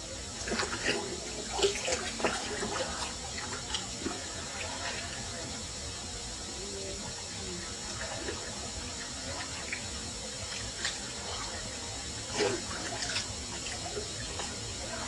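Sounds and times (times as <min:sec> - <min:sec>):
water trickling: 0:00.1 - 0:15.0
water drips and splashes: 0:00.3 - 0:06.1, 0:07.1 - 0:15.0.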